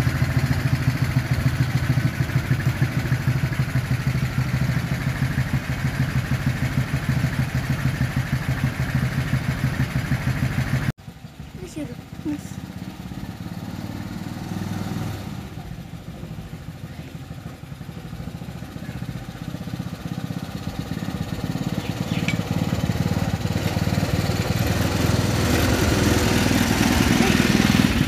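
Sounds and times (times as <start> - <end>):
single-cylinder engine running: 0.0 - 28.0.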